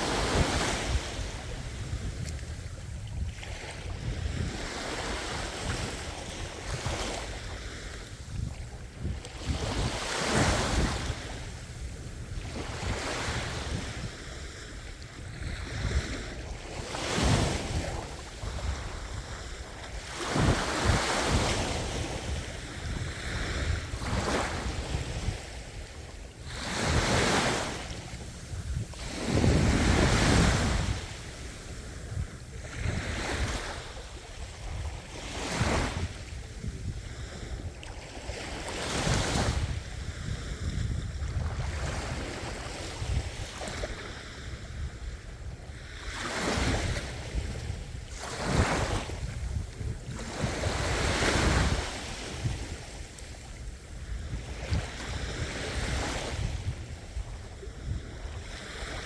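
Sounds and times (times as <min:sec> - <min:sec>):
ocean waves crashing on shore: 0:00.0 - 0:59.0.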